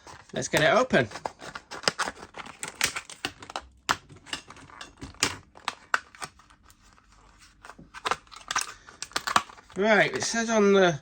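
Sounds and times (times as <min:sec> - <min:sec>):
packaging rustling: 0:00.0 - 0:10.5.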